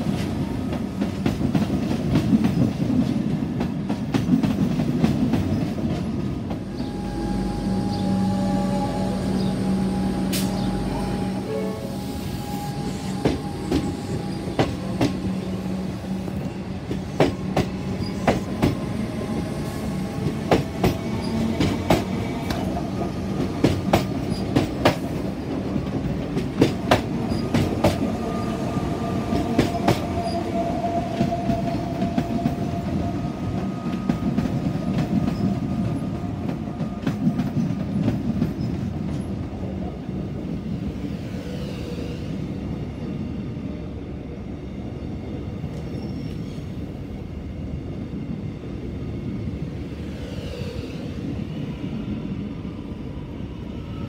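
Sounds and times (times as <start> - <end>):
electric trains rumbling past: 0.0 - 54.0.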